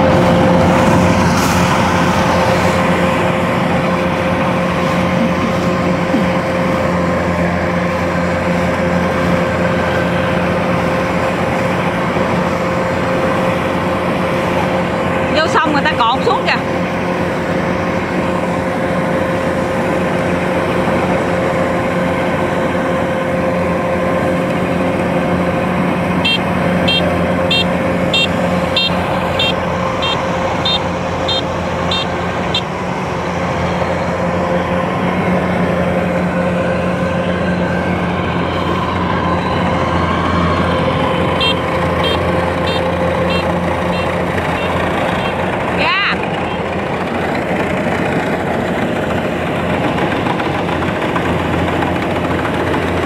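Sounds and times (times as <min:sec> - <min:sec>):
harvester engine running: 0:00.0 - 0:53.0.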